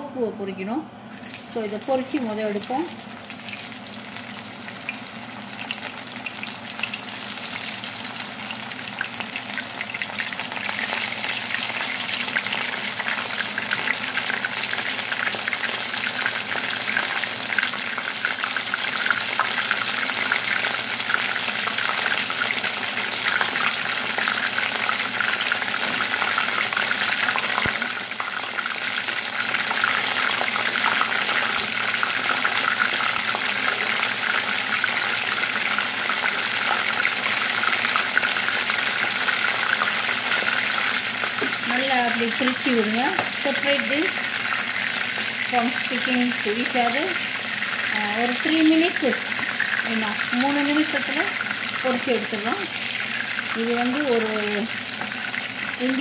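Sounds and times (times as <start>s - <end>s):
mushrooms sizzling in hot oil: 1.1s - 56.0s.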